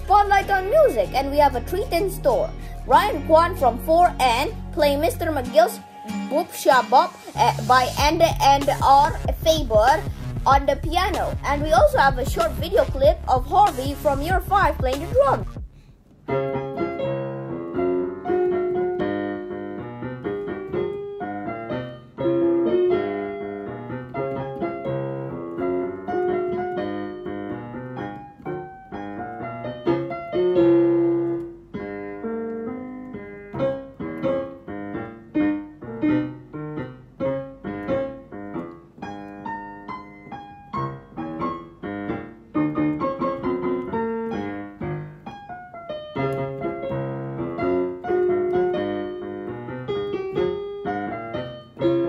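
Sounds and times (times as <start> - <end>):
piano duet: 0.0 - 52.0.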